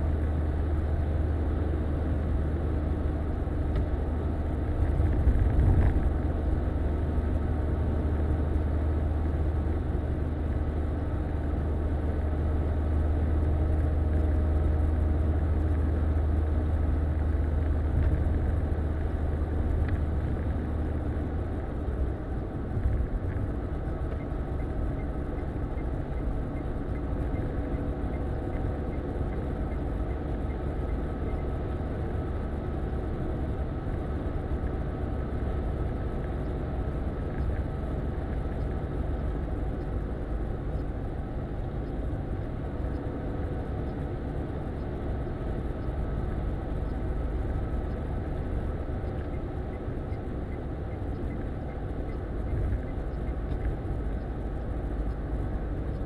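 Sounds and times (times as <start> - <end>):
car cabin road drone: 0.0 - 56.0.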